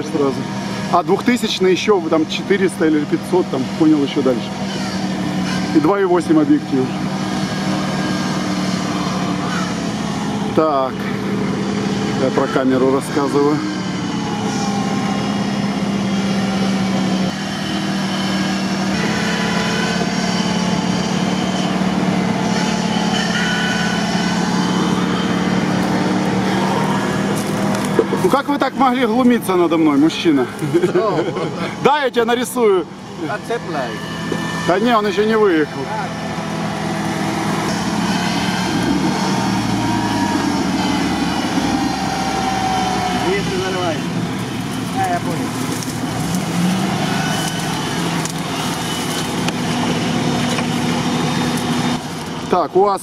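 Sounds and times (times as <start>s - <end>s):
vehicle engine running steadily: 0.0s - 53.0s.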